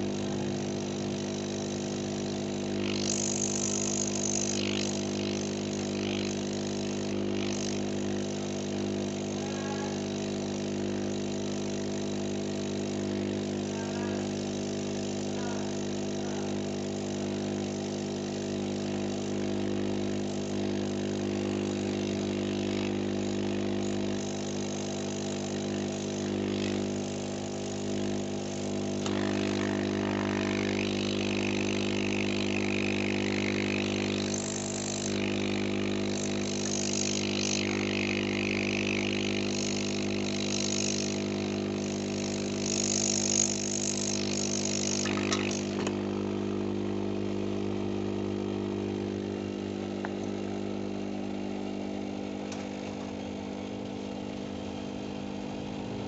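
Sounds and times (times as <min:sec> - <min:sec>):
hot air hissing: 0:00.0 - 0:53.0
blower motor humming: 0:00.0 - 0:56.0.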